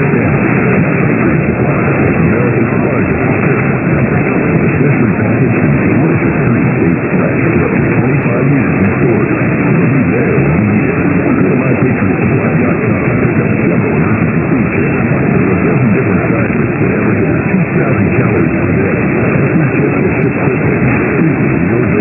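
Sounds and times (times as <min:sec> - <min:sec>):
music on radio broadcast: 0:00.0 - 0:22.0.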